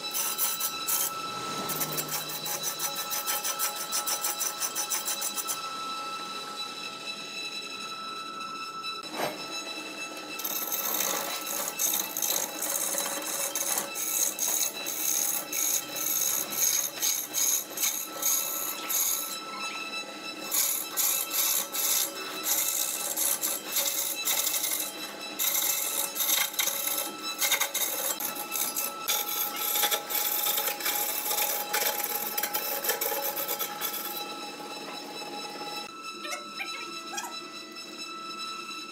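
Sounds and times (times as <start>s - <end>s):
wood lathe whining: 0.0s - 38.9s.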